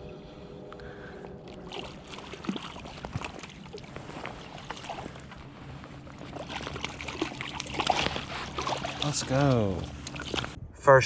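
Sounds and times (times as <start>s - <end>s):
flowing creek: 1.4s - 10.6s
water splashing and dripping: 1.4s - 10.6s.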